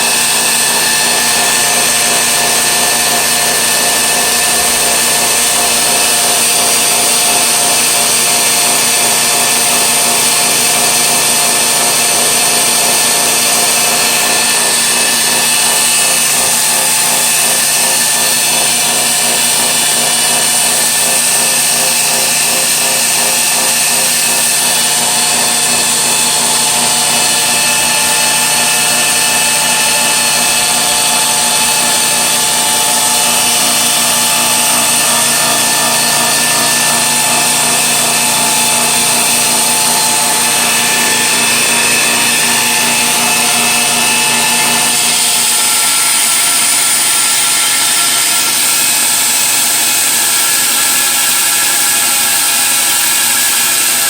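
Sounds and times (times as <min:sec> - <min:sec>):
belt grinder whining: 0:00.0 - 0:54.0.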